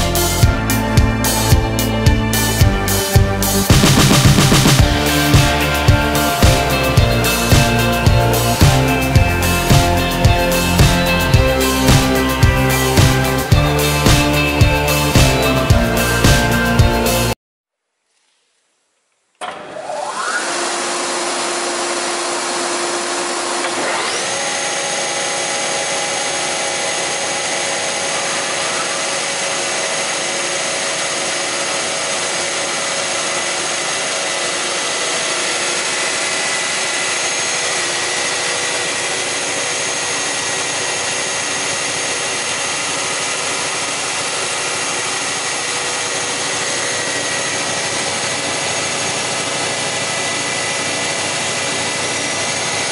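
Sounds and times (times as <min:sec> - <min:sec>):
planer motor whine: 0:00.0 - 0:17.3, 0:19.4 - 0:52.9.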